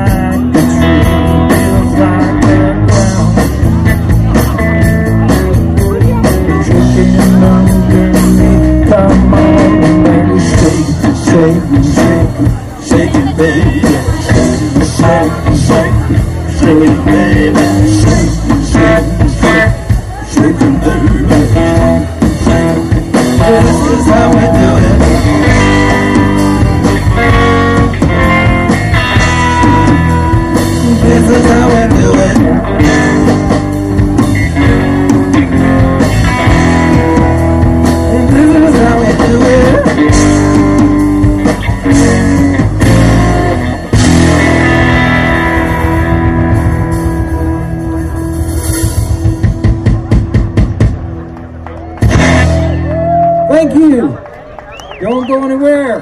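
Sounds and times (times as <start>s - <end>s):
live blues rock band playing: 0.0s - 55.2s.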